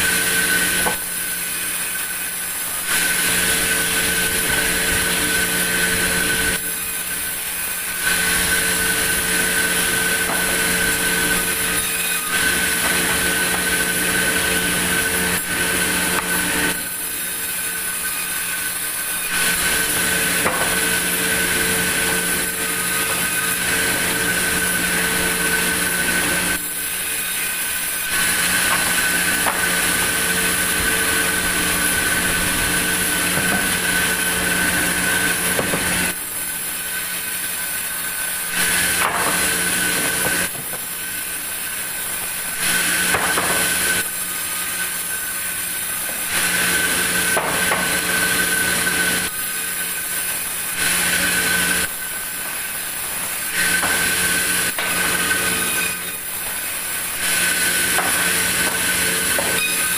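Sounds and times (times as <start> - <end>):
band saw whining through wood: 0.0 - 59.9.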